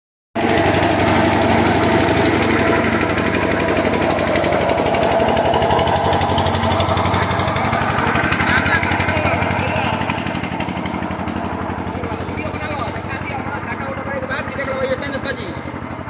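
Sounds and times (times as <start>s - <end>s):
engine running with rapid knocking: 0.4s - 16.0s.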